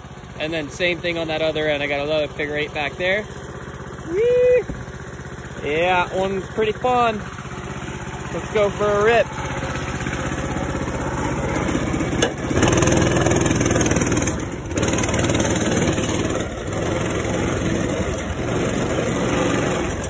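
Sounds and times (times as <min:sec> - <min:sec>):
mini bike engine revving: 0:00.0 - 0:20.0.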